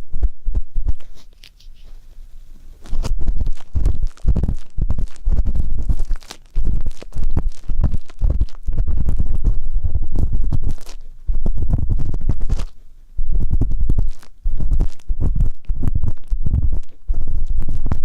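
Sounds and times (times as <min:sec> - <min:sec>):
ear pick scraping microphone: 0:00.0 - 0:18.0.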